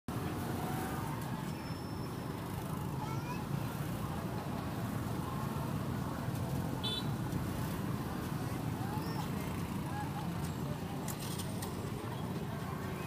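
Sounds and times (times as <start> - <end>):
faint distant voices: 0.1 - 13.0
low traffic rumble: 0.1 - 13.0.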